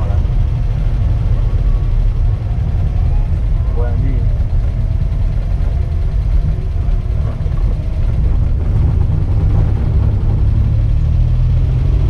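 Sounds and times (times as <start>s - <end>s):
van engine rumbling: 0.0s - 12.0s.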